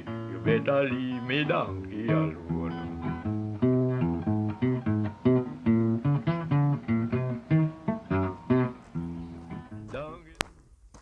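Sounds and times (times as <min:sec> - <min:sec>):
calypso-style instrumental music: 0:00.0 - 0:09.9
plucked guitar notes: 0:00.0 - 0:10.2.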